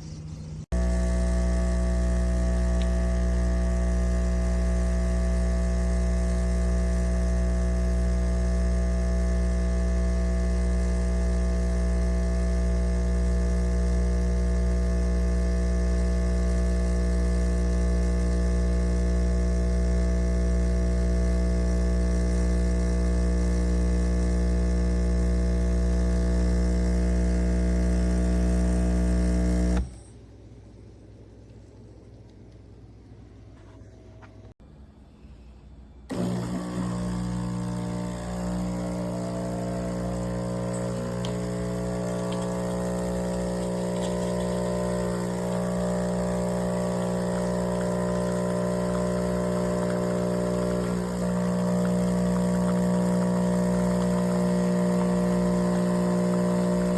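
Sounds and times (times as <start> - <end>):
espresso machine pump humming: 0.0 - 29.9, 36.0 - 56.9.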